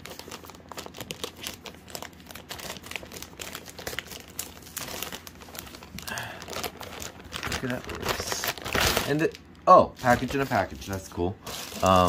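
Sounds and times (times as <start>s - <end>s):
paper mailer crinkling: 0.0s - 12.0s.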